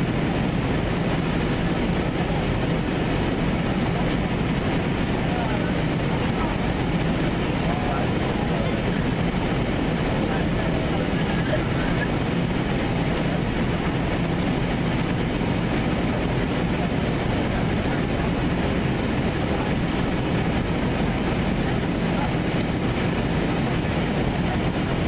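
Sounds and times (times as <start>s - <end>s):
airliner cabin engine rush: 0.0s - 25.0s.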